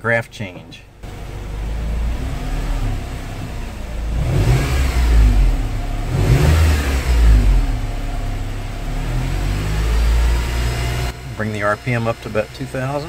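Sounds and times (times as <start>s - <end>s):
car engine revving: 1.0s - 13.0s.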